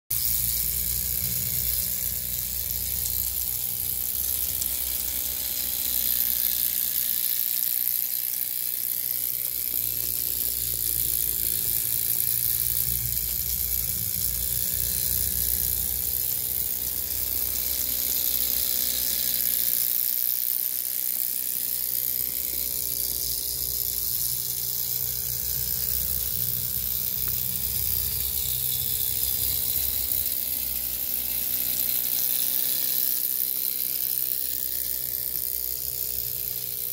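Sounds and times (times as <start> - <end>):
steam engine buzzing whir: 0.1 - 36.9.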